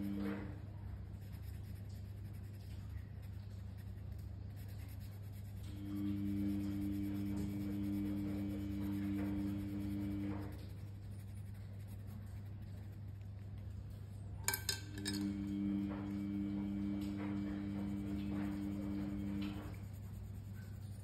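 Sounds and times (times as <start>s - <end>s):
pencil scratching on paper: 0.0s - 13.7s, 16.2s - 21.0s.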